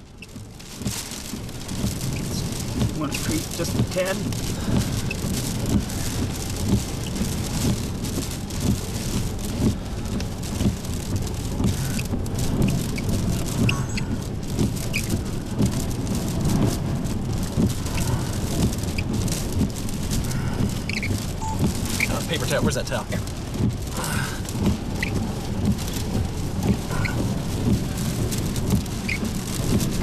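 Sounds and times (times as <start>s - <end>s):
heavy rain beating on a vehicle: 0.0s - 30.0s.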